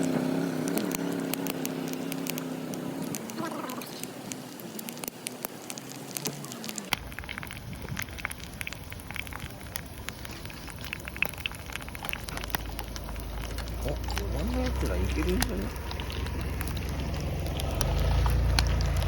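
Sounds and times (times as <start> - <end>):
hot oil sizzling and popping: 0.0 - 19.0.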